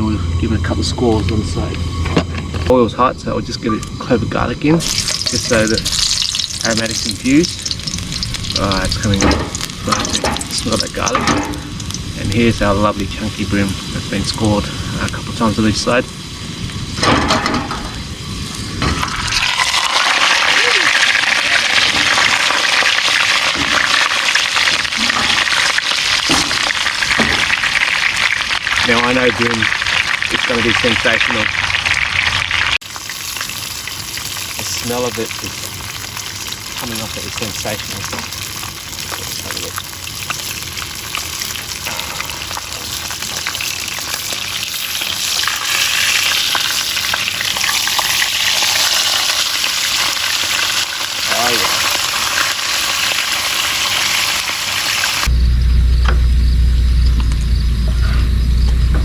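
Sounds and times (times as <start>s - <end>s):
fish sizzling in hot oil: 4.7s - 55.3s.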